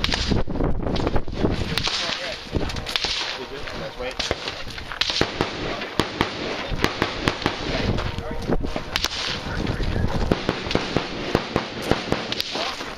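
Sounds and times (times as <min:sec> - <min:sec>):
rifle shots: 0:00.0 - 0:07.9, 0:08.8 - 0:09.6, 0:10.2 - 0:12.9.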